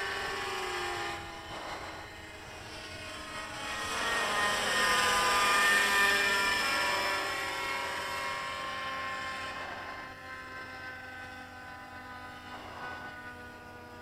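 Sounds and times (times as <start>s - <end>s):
rc helicopter engine whine: 0.0s - 14.0s.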